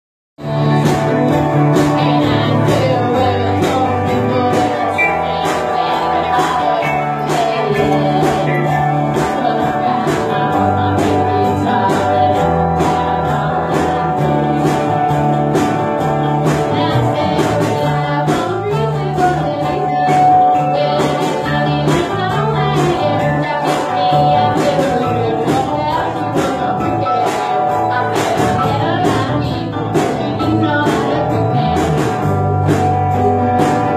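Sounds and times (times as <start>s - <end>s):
live band with amplified guitars: 0.4s - 33.9s.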